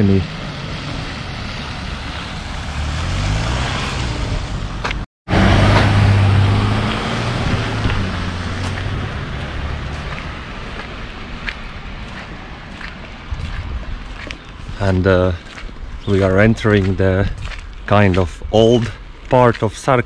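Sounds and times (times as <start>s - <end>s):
car driving on slushy street: 0.0s - 20.0s.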